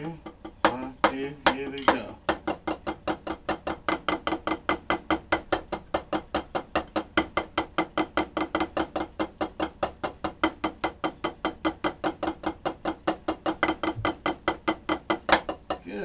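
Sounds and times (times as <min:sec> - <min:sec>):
drumsticks on practice pad: 0:00.0 - 0:15.8.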